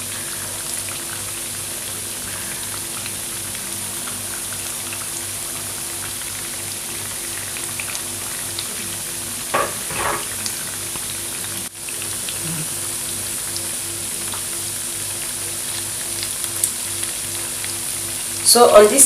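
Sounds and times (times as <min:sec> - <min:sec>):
food frying in hot oil: 0:00.0 - 0:19.0.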